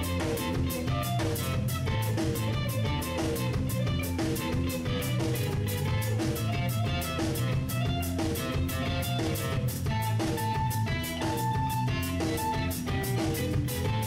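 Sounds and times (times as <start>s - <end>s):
bass guitar: 0.0s - 14.0s
drum kit beat with cymbals: 0.0s - 14.0s
electric guitar: 0.0s - 14.0s.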